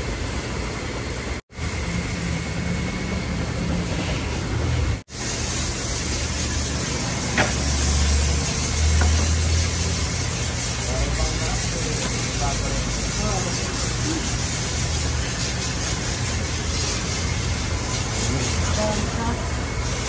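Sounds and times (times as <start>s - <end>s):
machine running with low hum: 0.0s - 20.0s.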